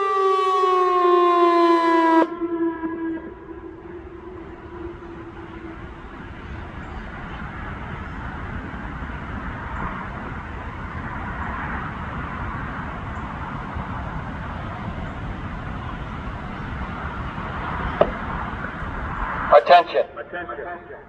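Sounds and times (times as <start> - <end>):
vehicle passing: 0.0 - 21.0
warning siren: 0.0 - 21.0.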